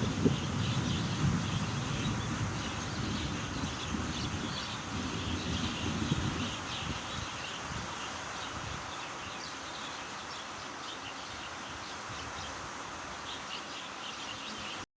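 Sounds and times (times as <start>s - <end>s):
rain falling: 0.0s - 14.8s
small birds chirping: 0.0s - 14.9s.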